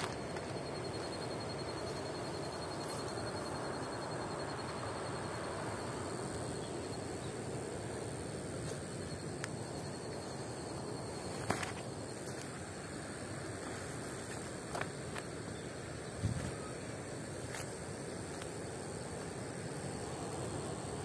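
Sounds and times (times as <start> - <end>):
insect trilling: 0.0 - 21.0.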